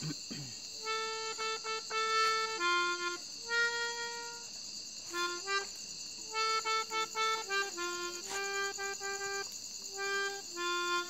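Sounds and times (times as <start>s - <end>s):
melodica melody: 0.8s - 11.0s.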